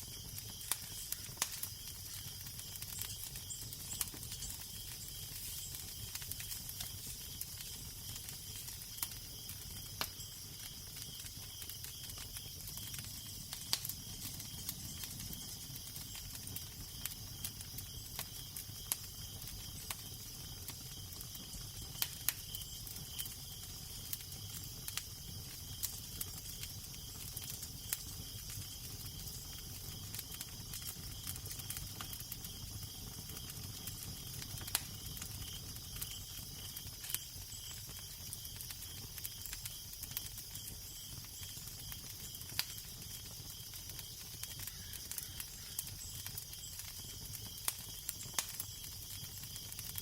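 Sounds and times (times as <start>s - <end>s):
fire crackling and popping: 0.0s - 50.0s.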